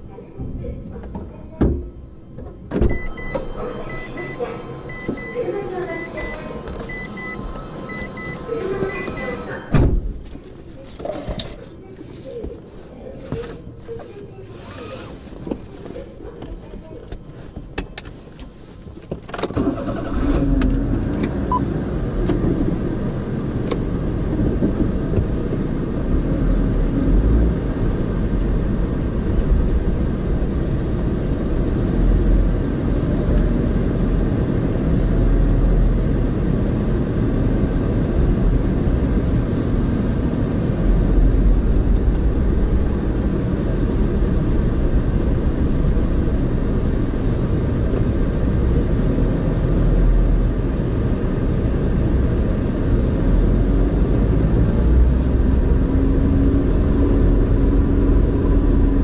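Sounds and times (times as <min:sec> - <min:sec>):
car engine starting and rumbling: 0:00.0 - 0:11.7, 0:17.1 - 0:59.0.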